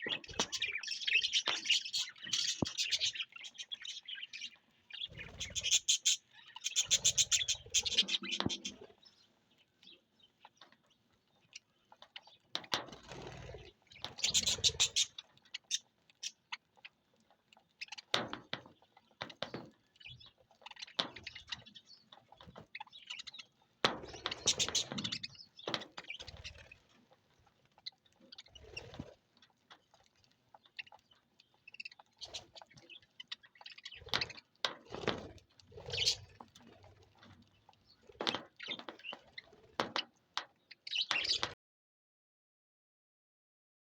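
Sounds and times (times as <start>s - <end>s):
budgerigars chirping and chattering: 0.0s - 29.0s, 29.7s - 41.6s.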